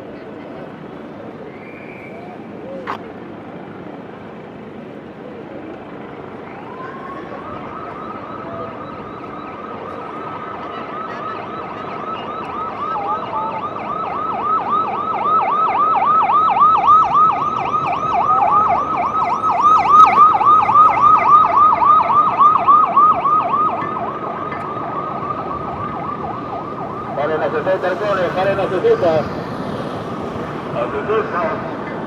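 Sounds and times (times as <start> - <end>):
police sirens wailing and yelping: 5.8 - 32.0.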